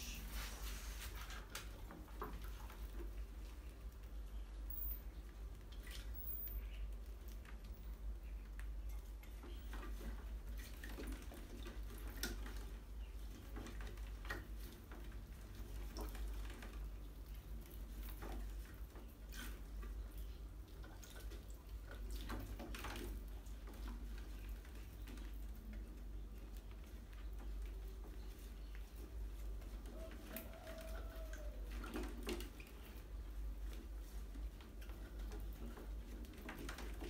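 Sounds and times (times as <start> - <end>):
rats splashing in water: 0.0 - 37.0.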